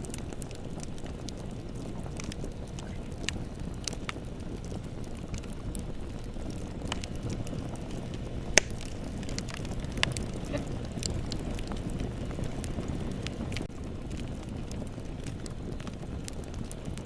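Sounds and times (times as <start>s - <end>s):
fire crackling and popping: 0.0s - 17.0s
low roar of flames: 0.0s - 17.0s.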